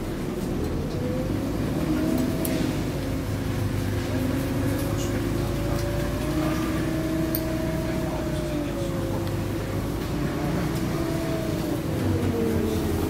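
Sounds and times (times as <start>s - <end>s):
bus engine rumble and whine: 0.0s - 13.0s.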